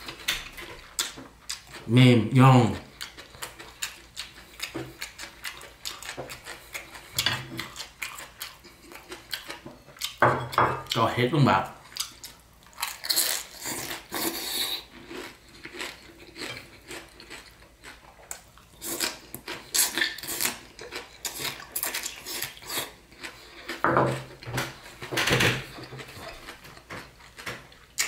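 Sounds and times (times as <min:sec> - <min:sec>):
chewing crispy food: 0:00.0 - 0:10.2, 0:11.8 - 0:25.0, 0:25.6 - 0:28.0.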